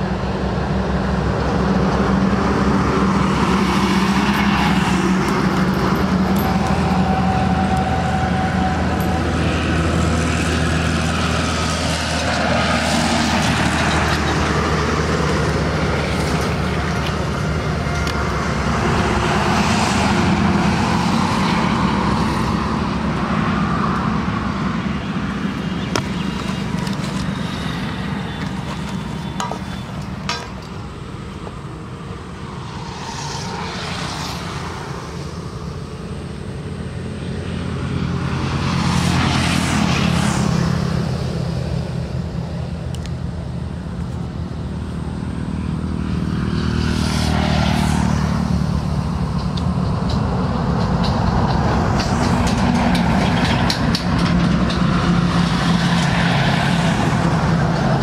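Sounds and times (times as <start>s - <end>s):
passing vehicles: 0.0s - 58.0s.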